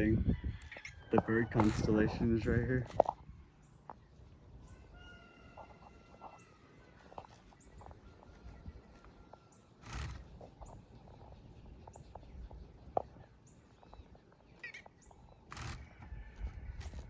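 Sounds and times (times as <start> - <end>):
birds chirping faintly: 1.6 - 16.8.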